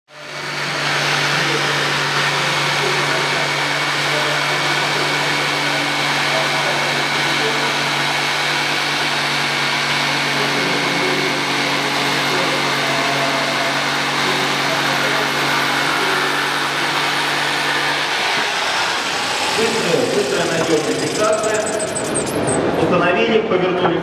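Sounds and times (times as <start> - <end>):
jigsaw cutting wood: 0.3 - 22.6.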